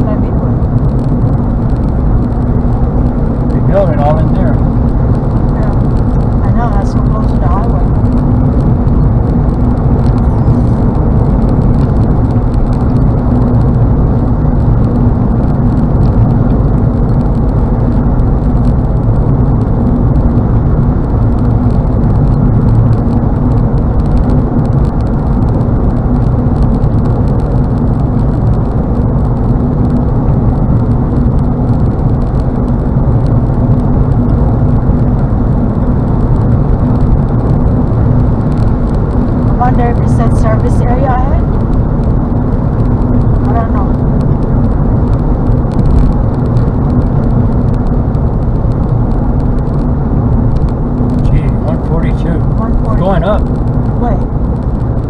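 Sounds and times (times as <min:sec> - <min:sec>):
road and wind noise in car: 0:00.0 - 0:55.0.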